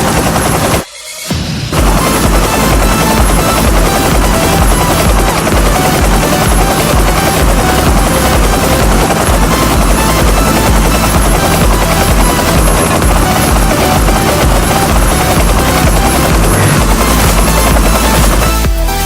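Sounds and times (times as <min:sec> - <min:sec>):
helicopter rotor: 0:00.0 - 0:19.0.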